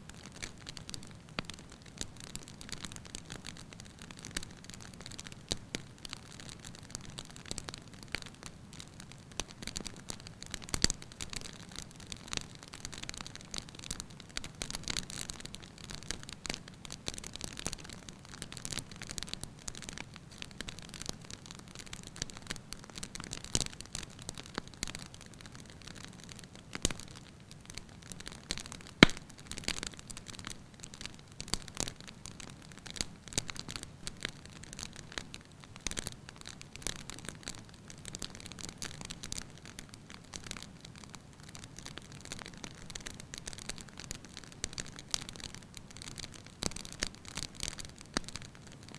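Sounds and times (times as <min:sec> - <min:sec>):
wood fire crackling: 0:00.1 - 0:48.9.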